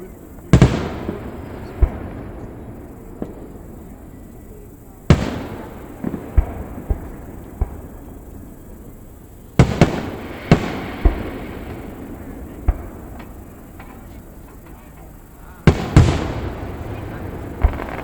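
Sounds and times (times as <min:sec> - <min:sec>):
fireworks bangs with rumble: 0:00.0 - 0:18.0.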